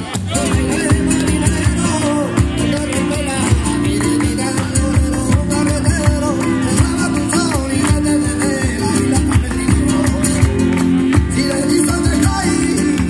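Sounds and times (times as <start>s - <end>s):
flamenco guitar playing: 0.0s - 13.0s
hand clapping: 0.0s - 13.0s
hand drum beats: 0.0s - 13.0s.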